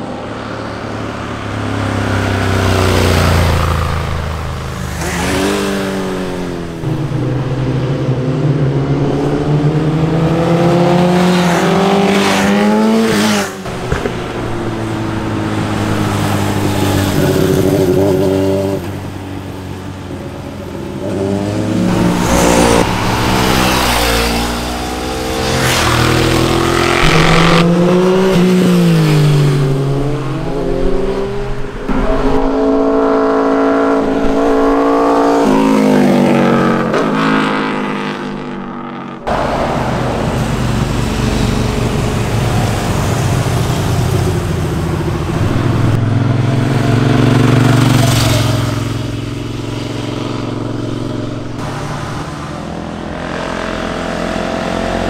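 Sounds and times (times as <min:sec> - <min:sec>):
motorcycles passing at speed: 0:00.0 - 0:55.0.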